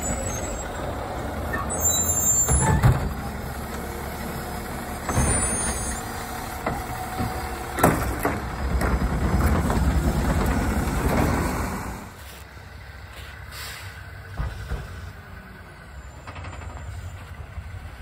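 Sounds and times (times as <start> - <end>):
garbage truck running: 0.0 - 18.0.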